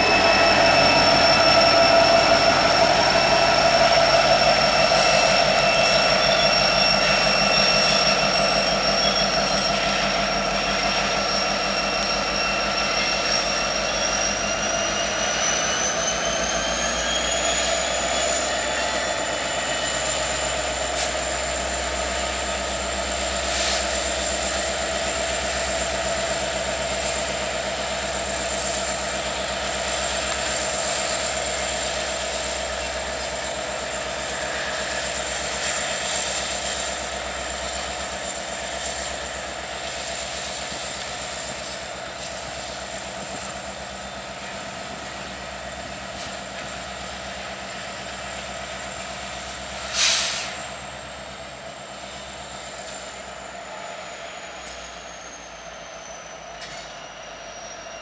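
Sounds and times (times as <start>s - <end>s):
high whine: 0.0s - 53.0s
locomotive mechanical drone: 0.0s - 58.0s.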